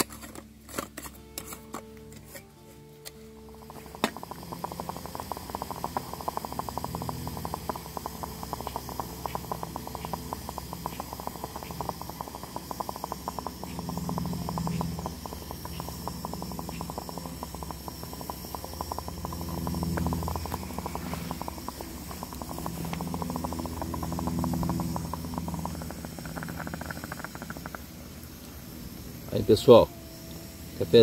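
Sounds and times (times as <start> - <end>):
campfire crackling: 0.0 - 31.0
water bubbling in pot: 3.4 - 29.3.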